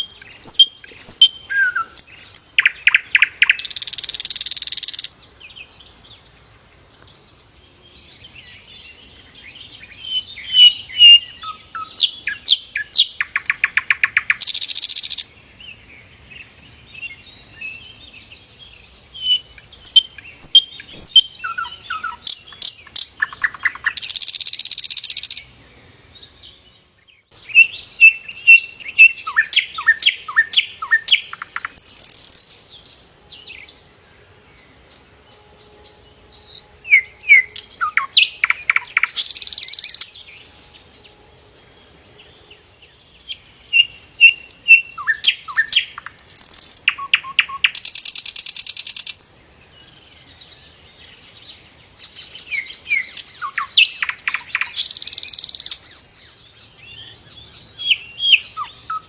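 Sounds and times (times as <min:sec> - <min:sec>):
flycatcher singing: 0:00.0 - 0:06.3, 0:07.0 - 0:15.4, 0:16.4 - 0:25.5, 0:26.2 - 0:33.9, 0:34.5 - 0:59.0.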